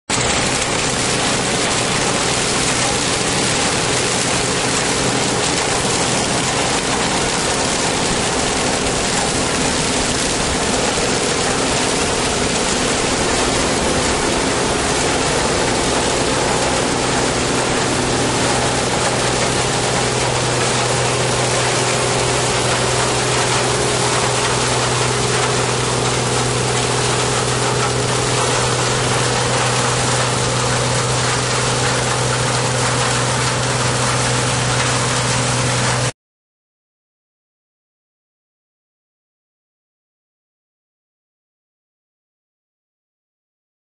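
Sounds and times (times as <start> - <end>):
combine harvester engine hum: 0.1 - 36.1
cutting and threshing noise: 0.1 - 36.1.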